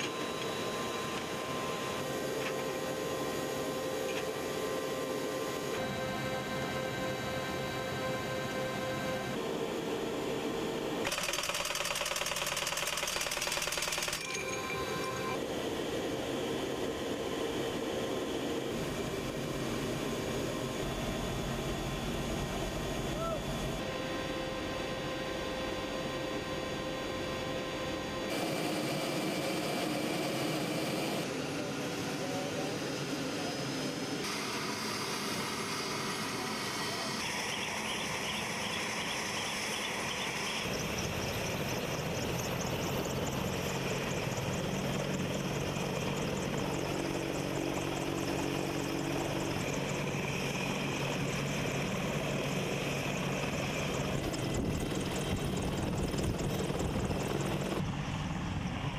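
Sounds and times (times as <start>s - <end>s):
helicopter engines and rotors: 0.0s - 58.9s.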